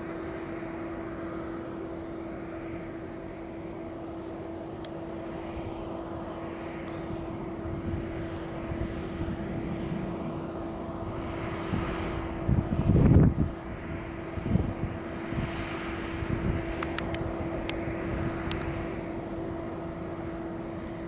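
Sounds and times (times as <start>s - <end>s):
jet engines whining: 0.0s - 21.0s
wind buffeting microphone: 2.1s - 21.0s.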